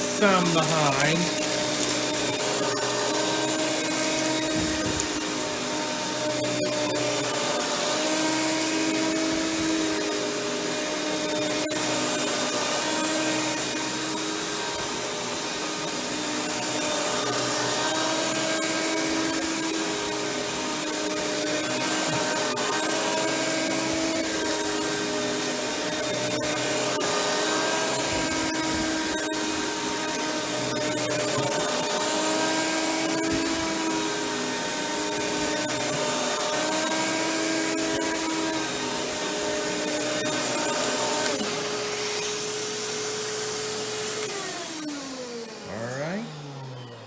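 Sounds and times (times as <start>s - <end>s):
vacuum cleaner motor drone: 0.0s - 47.0s.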